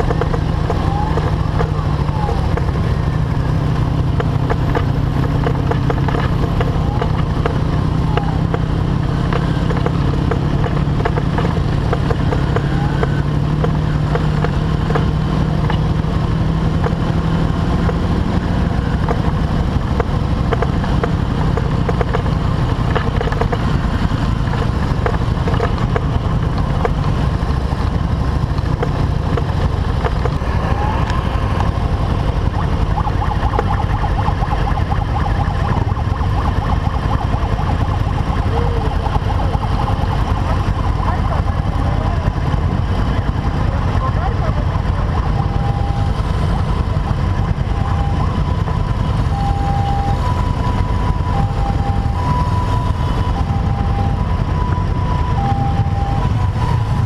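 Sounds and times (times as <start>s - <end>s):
high steady whine: 0.0s - 57.0s
motorcycle engine rumbling: 0.0s - 57.0s.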